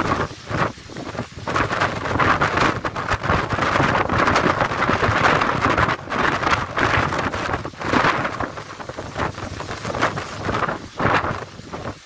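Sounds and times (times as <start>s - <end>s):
gale buffeting microphone: 0.0s - 12.0s
waterfall spray hissing: 0.0s - 12.0s.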